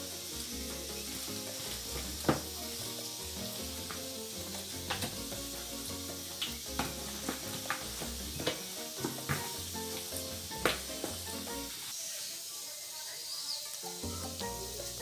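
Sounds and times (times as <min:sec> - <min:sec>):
background music: 0:00.0 - 0:11.9, 0:13.8 - 0:15.0.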